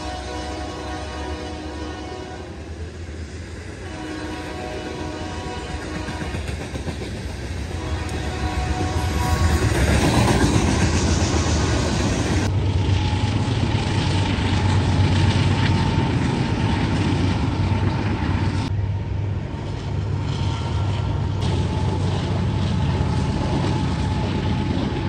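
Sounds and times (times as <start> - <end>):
freight train rumble and rattle: 0.0 - 25.0.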